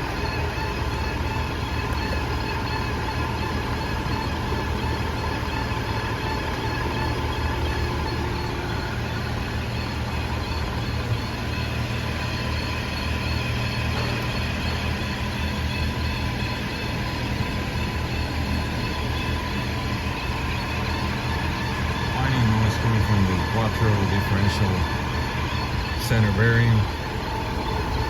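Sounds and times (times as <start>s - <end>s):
drivetrain rumble with whine: 0.0s - 28.0s.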